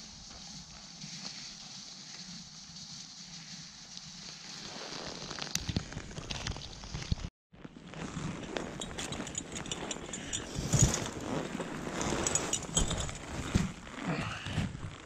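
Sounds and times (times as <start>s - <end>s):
snow crunching and knocking: 0.0s - 15.0s.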